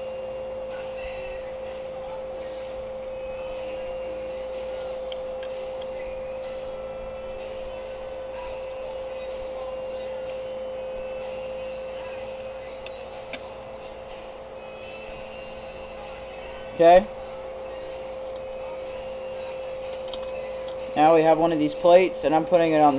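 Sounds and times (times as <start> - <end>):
steady electrical whine: 0.0 - 22.9.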